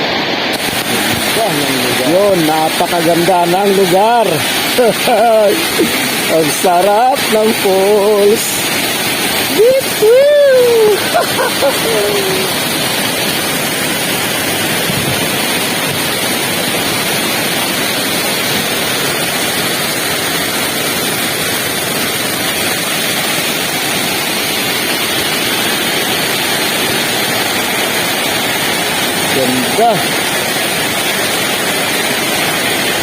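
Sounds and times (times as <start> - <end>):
waterfall crashing: 0.0 - 33.0.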